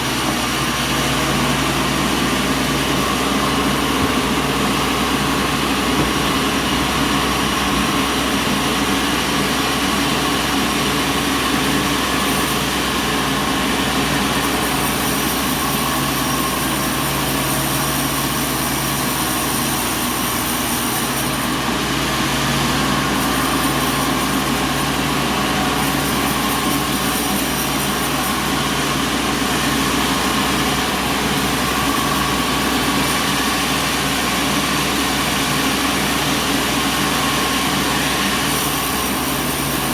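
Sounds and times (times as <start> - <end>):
high machine whine: 0.0 - 39.9
sawmill machinery low hum: 0.0 - 39.9.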